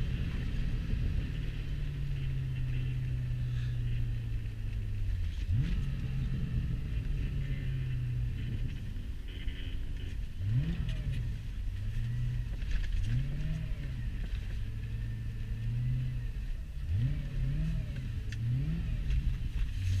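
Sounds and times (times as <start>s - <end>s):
v-eight engine revving: 0.0s - 20.0s.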